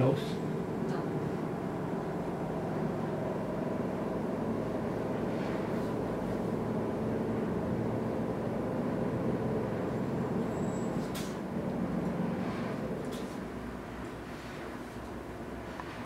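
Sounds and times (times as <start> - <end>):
machine hum with low drone: 0.0 - 16.0.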